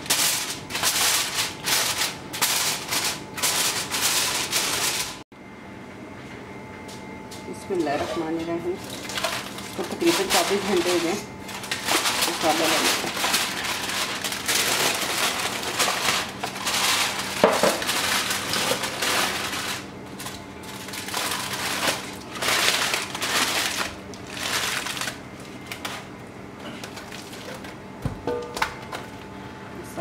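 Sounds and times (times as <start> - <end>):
aluminium foil crinkling: 0.0 - 5.2, 8.8 - 27.8.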